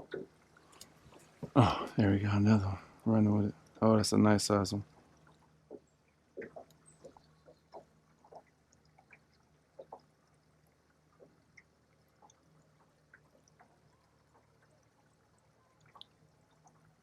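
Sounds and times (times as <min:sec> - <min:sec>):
water lapping and splashing: 0:00.0 - 0:01.8, 0:04.8 - 0:17.0
faint low hum: 0:00.0 - 0:17.0
water dripping: 0:00.0 - 0:17.0.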